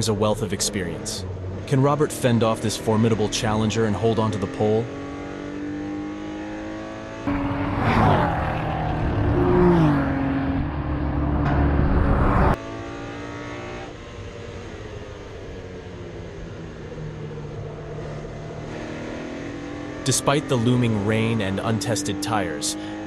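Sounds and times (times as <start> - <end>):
racing car engine: 0.0 - 23.0.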